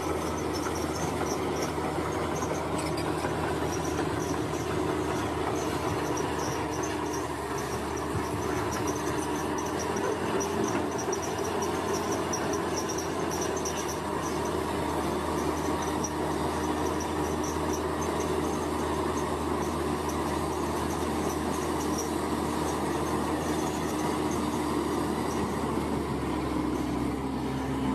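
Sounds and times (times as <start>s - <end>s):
construction machine engine running: 0.0s - 27.9s.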